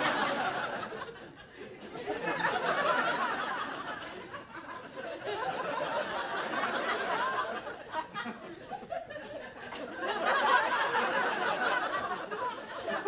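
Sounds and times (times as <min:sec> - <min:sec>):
studio audience laughing: 0:00.0 - 0:13.0.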